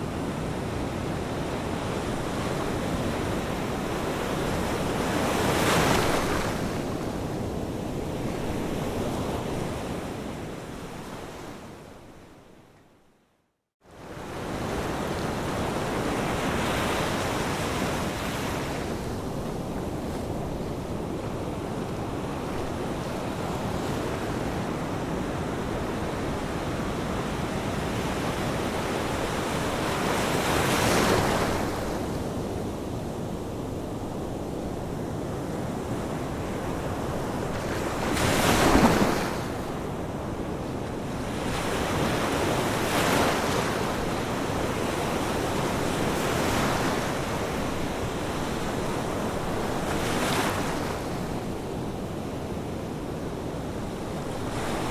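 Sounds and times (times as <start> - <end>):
ocean waves breaking on shore: 0.0 - 11.8, 13.9 - 54.9.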